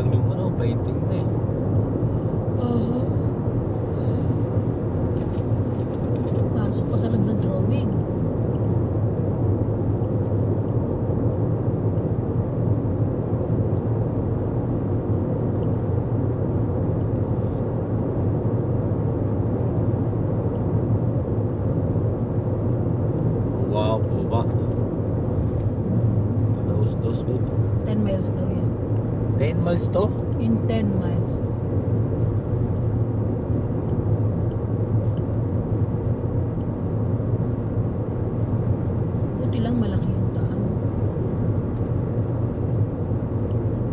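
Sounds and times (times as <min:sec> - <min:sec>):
car road noise at cruising speed: 0:00.0 - 0:43.9.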